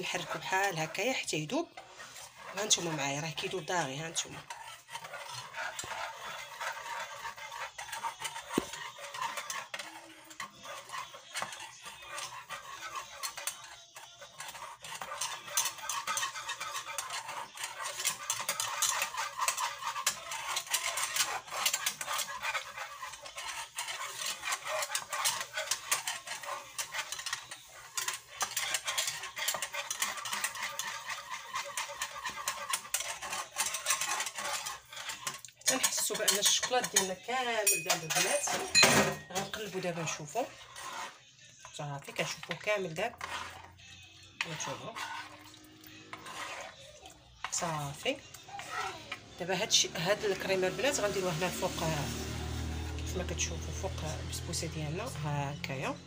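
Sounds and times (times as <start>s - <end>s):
whisk beating in metal saucepan: 0.0s - 56.0s.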